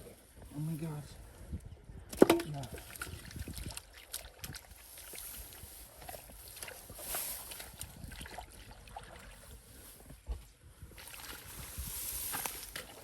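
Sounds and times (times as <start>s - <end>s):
splashing in shallow muddy water: 2.1s - 13.0s.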